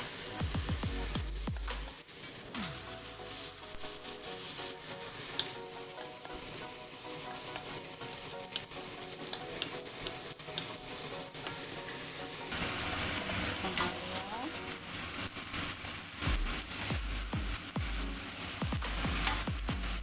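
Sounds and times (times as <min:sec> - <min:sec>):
faint background music: 0:00.0 - 0:20.0
food frying in hot oil: 0:00.0 - 0:20.0.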